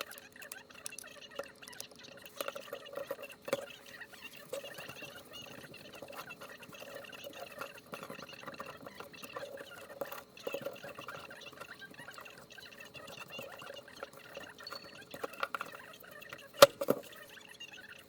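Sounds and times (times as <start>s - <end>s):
small hard parts clicking: 0.0s - 17.4s.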